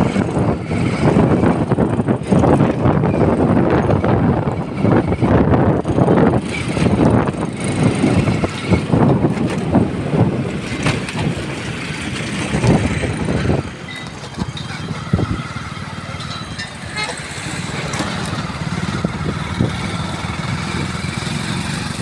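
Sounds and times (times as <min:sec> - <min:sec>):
vehicle road and wind rumble: 0:00.0 - 0:22.0.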